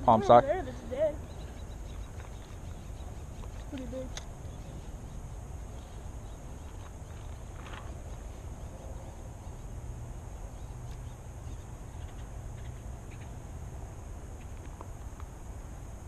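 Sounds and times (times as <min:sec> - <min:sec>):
steady high hiss: 0:00.0 - 0:16.0
wind rumble on microphone: 0:00.0 - 0:16.0.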